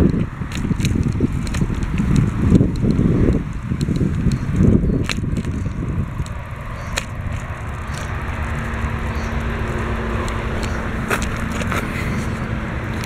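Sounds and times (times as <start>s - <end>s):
bicycle tyres rumbling on trail: 0.0s - 13.0s
clicks and rattles: 0.0s - 13.0s
wind on microphone: 0.0s - 13.0s.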